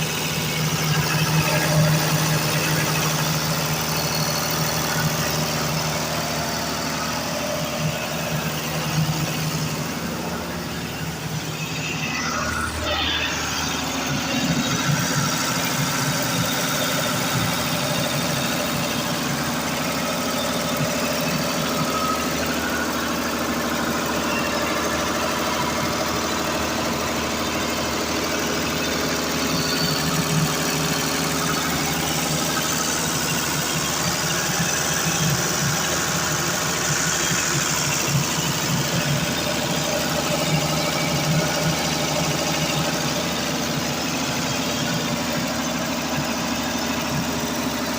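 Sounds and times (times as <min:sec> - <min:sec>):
diesel generator running: 0:00.0 - 0:47.9.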